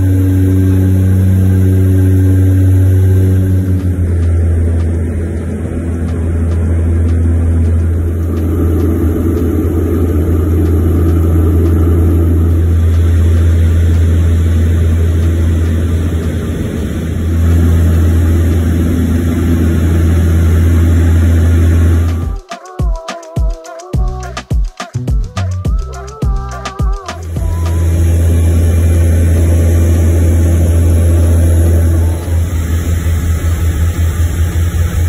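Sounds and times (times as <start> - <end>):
turboprop engines droning: 0.0 - 22.5, 23.9 - 35.0.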